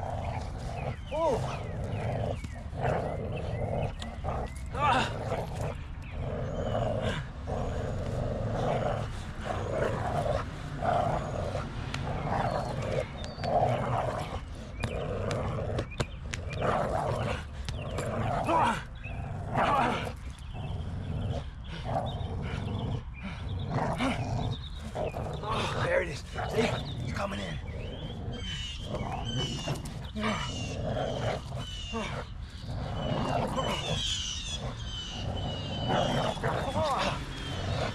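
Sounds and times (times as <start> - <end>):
dog growling: 0.0 - 37.9.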